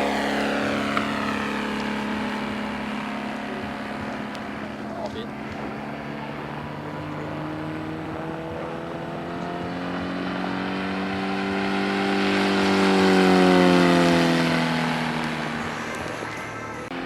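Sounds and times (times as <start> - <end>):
model aeroplane engine buzzing: 0.0 - 17.0.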